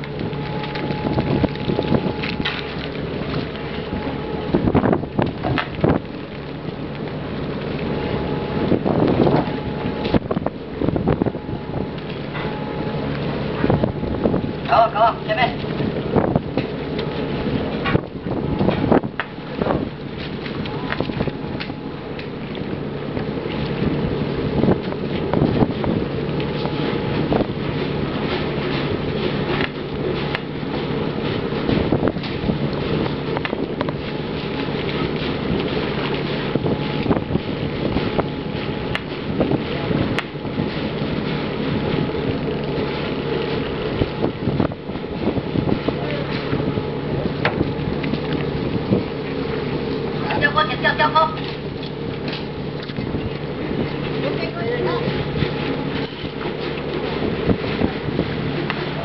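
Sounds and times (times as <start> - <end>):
steady boat hum: 0.0 - 59.0
water splashing along boat hull: 0.0 - 59.0
wind buffeting microphone: 0.0 - 59.0.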